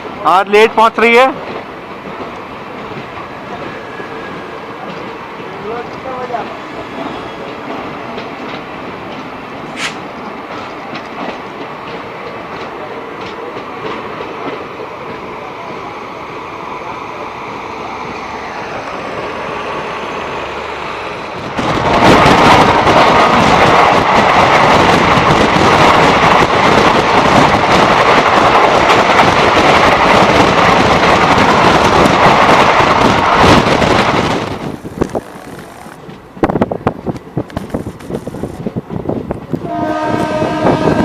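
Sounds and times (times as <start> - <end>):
passing train wheel clatter: 0.0 - 41.0
train running noise: 0.0 - 41.0.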